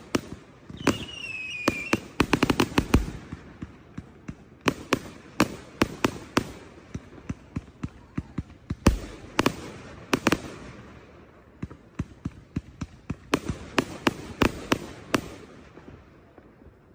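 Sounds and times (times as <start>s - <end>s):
fireworks bangs and crackling: 0.0s - 16.9s.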